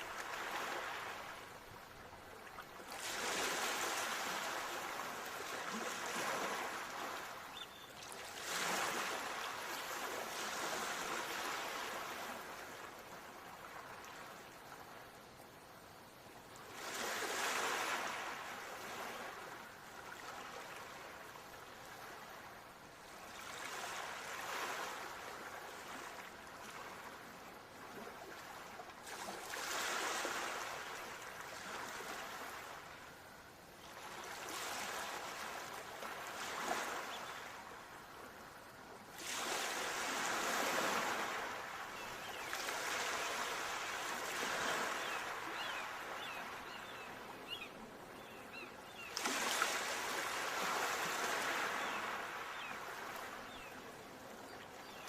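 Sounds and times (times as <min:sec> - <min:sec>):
ocean waves washing on shore: 0:00.0 - 0:15.0, 0:23.3 - 0:55.0.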